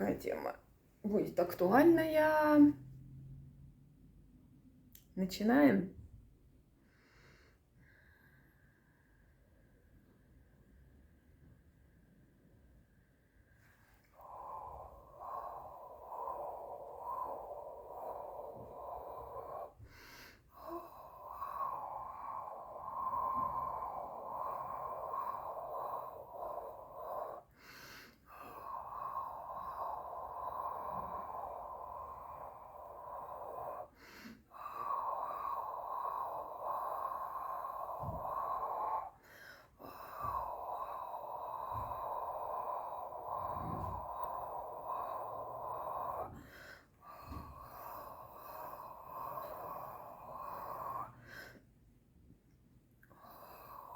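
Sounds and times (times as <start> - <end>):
person breathing: 6.7 - 52.0, 53.0 - 53.9.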